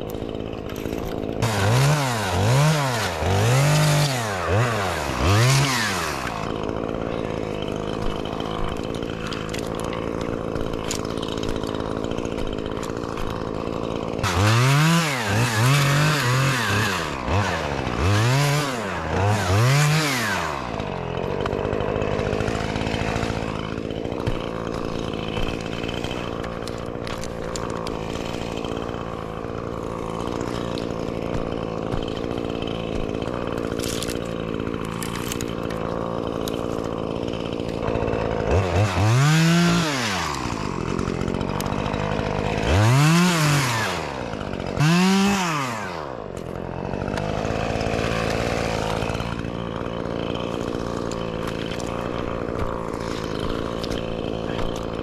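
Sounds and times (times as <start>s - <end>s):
chainsaw revving and idling: 0.0s - 55.0s.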